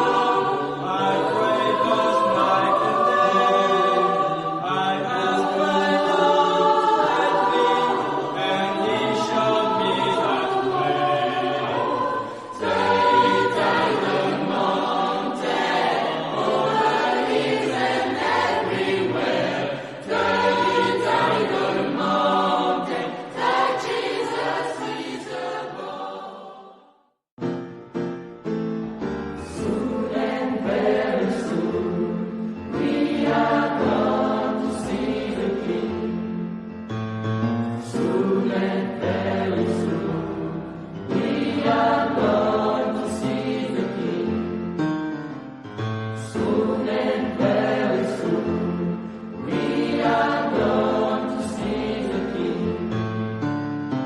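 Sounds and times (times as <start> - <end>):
choir singing: 0.0 - 27.1, 29.4 - 36.8, 37.8 - 44.9, 45.8 - 54.0.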